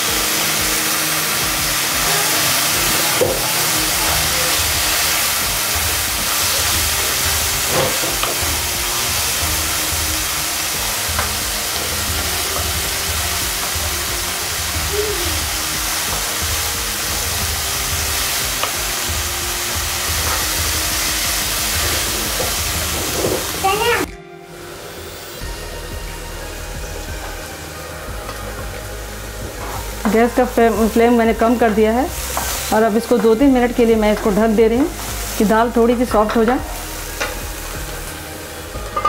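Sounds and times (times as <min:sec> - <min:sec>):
food sizzling: 0:00.0 - 0:39.0.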